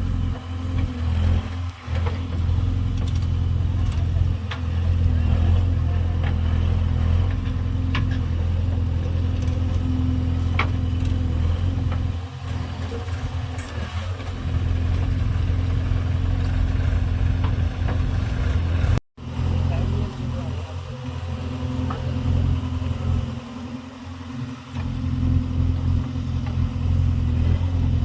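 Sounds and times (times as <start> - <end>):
heavy diesel engine humming: 0.0 - 28.0.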